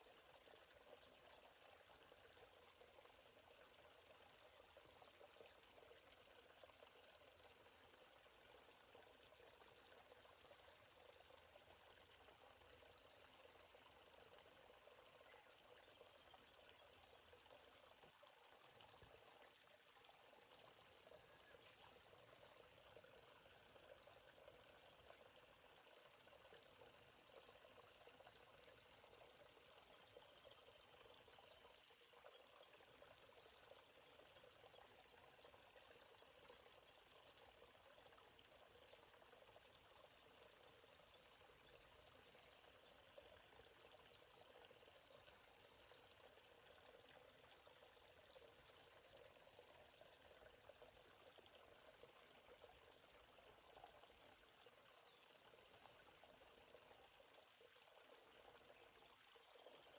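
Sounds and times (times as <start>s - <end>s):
high-pitched insect chorus: 0.0s - 59.9s
stream trickling: 0.0s - 59.9s.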